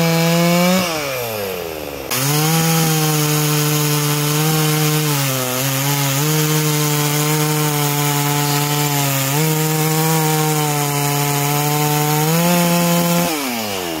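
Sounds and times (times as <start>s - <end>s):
chainsaw cutting through log: 0.0s - 14.0s.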